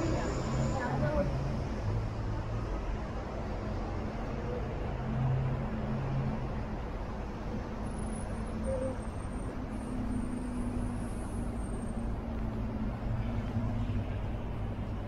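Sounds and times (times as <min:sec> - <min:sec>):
traffic road noise rumble: 0:00.0 - 0:15.0
vehicle engine hum: 0:00.0 - 0:15.0.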